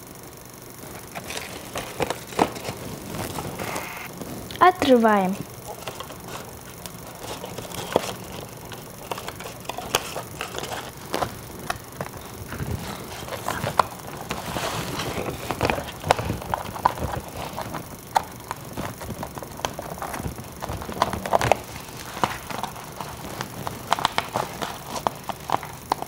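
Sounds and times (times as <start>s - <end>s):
packaging crinkling and rustling: 0.8s - 26.0s.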